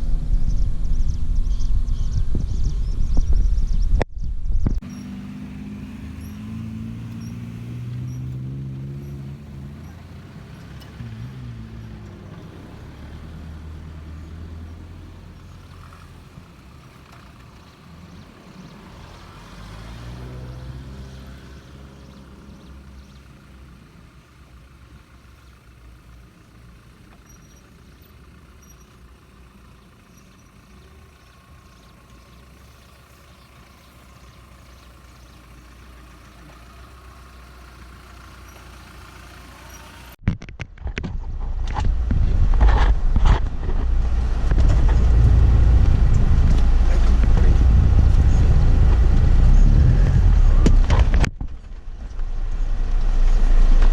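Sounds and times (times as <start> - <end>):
engine revving: 4.8 - 40.2, 41.4 - 53.9.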